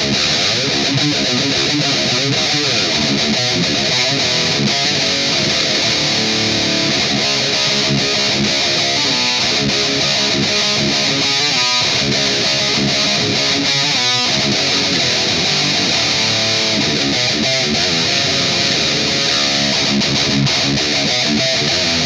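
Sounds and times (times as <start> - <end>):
overdriven electric guitar riffing: 0.0 - 22.0.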